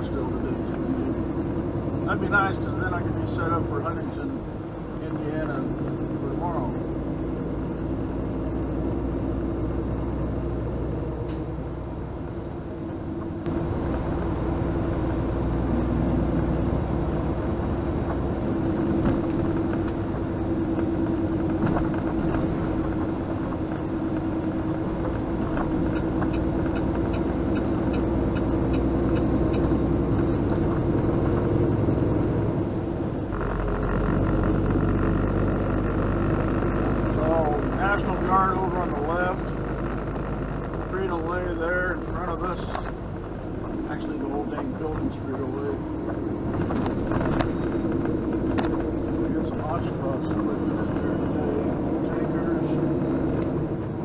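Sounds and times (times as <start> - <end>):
diesel truck engine droning: 0.0 - 54.0
road and wind noise: 0.0 - 54.0.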